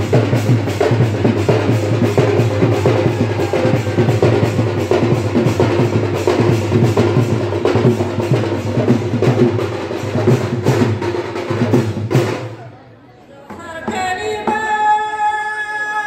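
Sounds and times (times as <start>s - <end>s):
folk drum ensemble: 0.0s - 16.0s.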